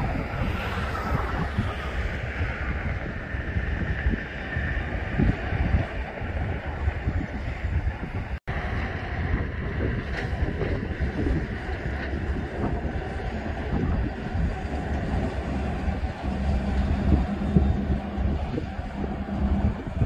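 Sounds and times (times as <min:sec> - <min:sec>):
engine drone: 0:00.0 - 0:20.0
train locomotive rumble: 0:00.0 - 0:20.0.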